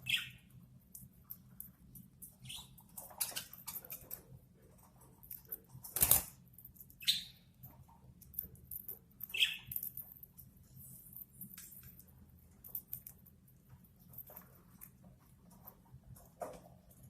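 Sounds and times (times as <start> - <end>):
birds pecking and cracking food: 0.0 - 17.0.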